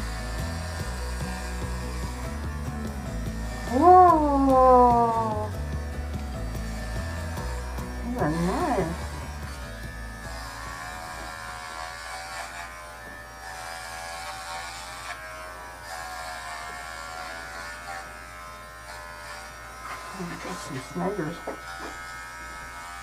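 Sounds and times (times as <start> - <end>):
electric clippers buzzing: 0.0 - 23.0.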